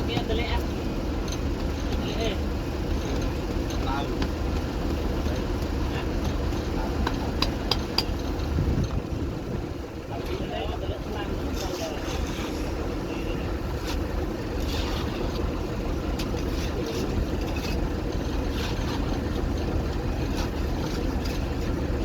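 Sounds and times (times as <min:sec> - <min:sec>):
machinery engine rumbling: 0:00.0 - 0:22.0.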